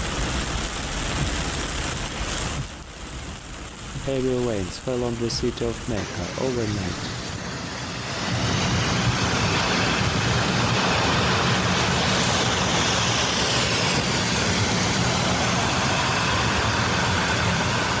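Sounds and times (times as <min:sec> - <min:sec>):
road traffic noise: 0:01.2 - 0:18.0.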